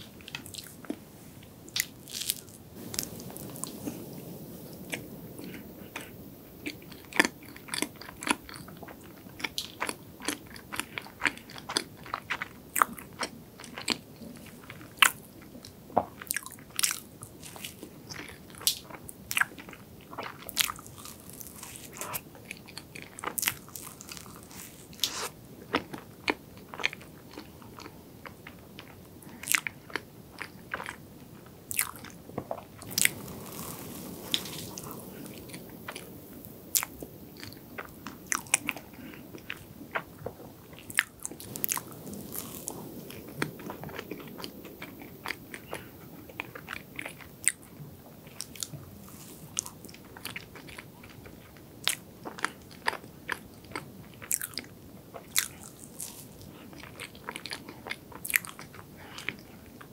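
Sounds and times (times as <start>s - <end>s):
soft chewing: 0.0s - 59.9s
crunching pastry: 1.7s - 31.0s, 31.7s - 59.9s.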